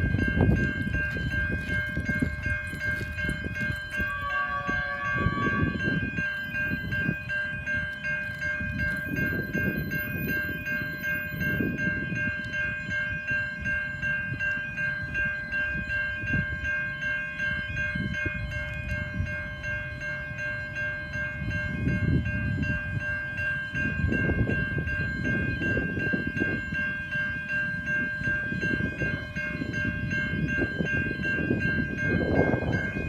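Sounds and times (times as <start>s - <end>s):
freight train rumbling: 0.0s - 33.0s
level crossing bells ringing: 0.0s - 33.0s.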